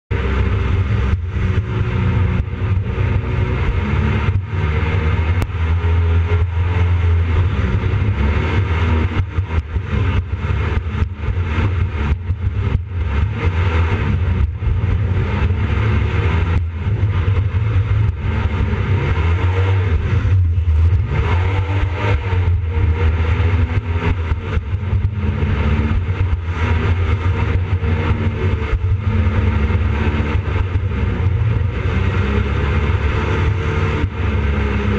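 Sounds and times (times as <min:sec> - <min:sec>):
boat engine revving: 0:00.1 - 0:34.9.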